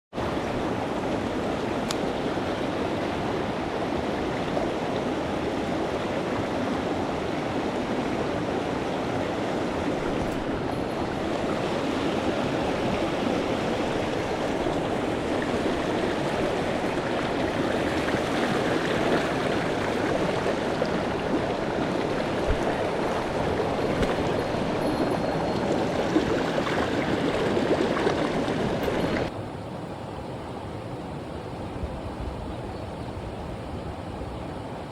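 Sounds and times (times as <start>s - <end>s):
mountain stream running: 0.1s - 34.9s.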